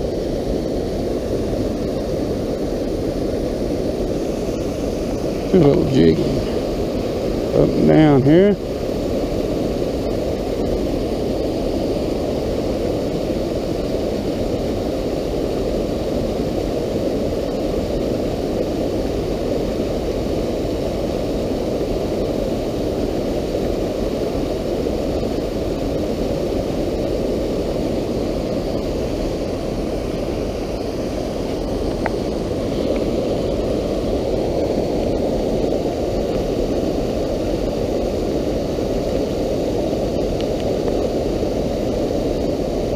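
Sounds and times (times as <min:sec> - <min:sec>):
stream rushing: 0:00.0 - 0:42.9.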